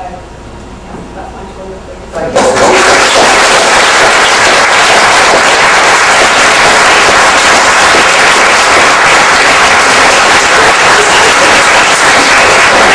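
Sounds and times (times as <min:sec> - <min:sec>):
audience applauding: 0:02.4 - 0:12.9.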